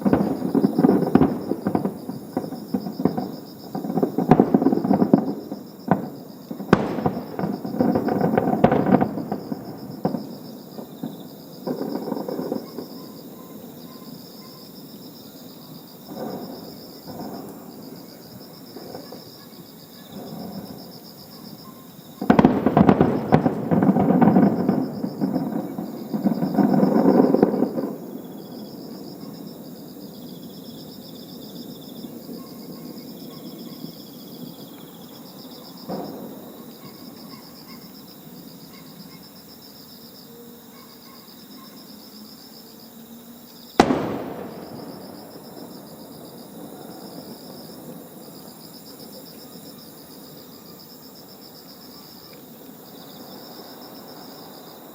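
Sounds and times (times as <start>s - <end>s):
fireworks bangs and booms: 0.0s - 38.6s, 43.7s - 51.9s
crickets chirping: 0.0s - 54.9s.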